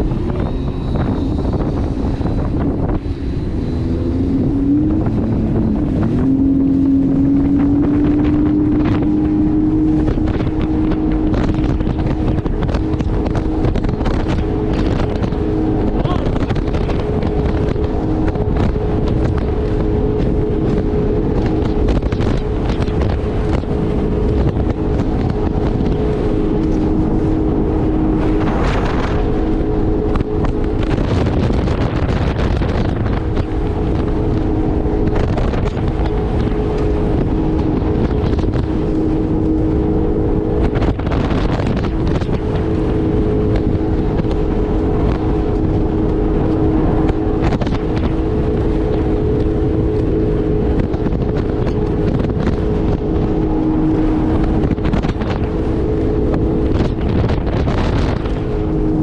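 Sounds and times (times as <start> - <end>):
jet ski engine running: 0.0 - 59.0
wind noise on microphone: 0.0 - 59.0.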